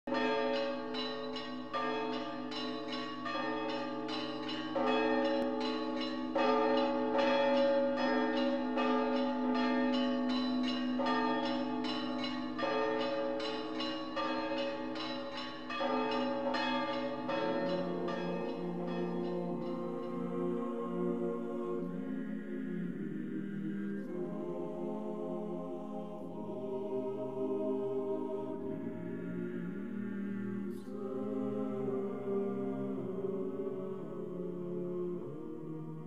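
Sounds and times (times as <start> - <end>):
church bells ringing: 0.1 - 33.6.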